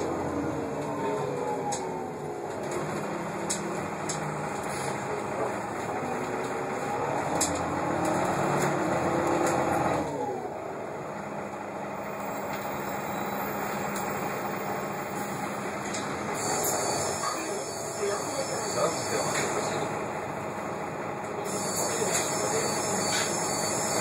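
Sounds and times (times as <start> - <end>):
bus engine and driveline hum: 0.0 - 24.0.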